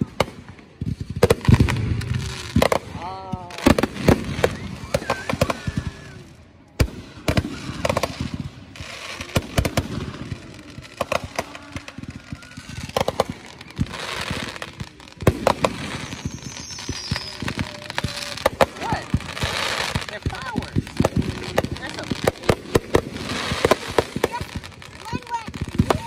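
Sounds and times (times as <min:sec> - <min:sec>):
fireworks bangs and crackling: 0:00.0 - 0:26.0
fireworks hissing: 0:00.0 - 0:26.0.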